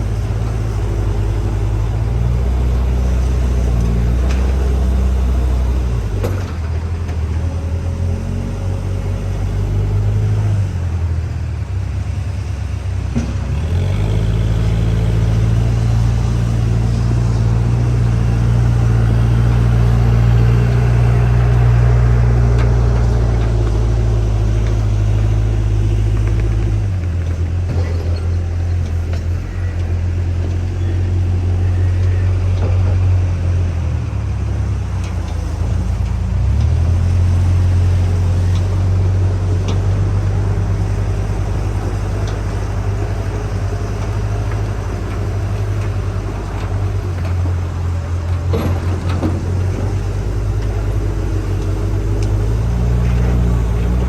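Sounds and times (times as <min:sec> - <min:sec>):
backhoe diesel engine under load: 0:00.0 - 0:54.0.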